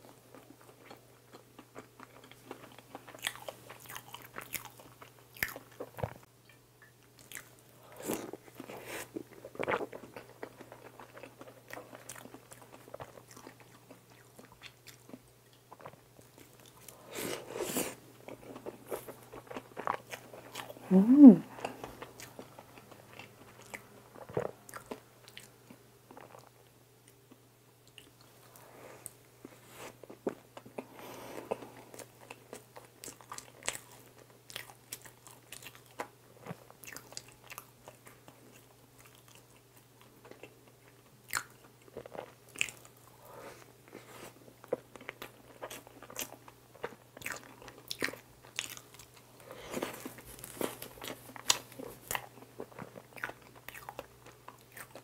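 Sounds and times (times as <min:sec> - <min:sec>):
chewing soft bread: 0:00.0 - 0:55.0.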